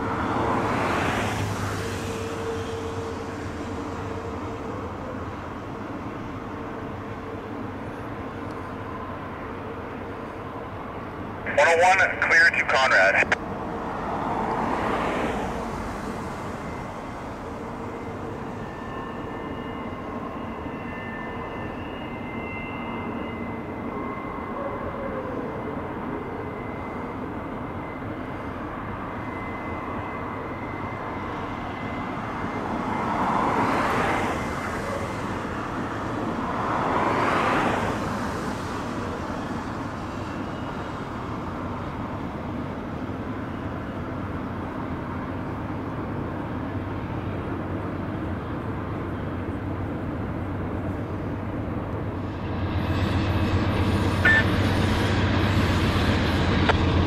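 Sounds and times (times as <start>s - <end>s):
distant freight trains rumbling: 0.0s - 57.0s.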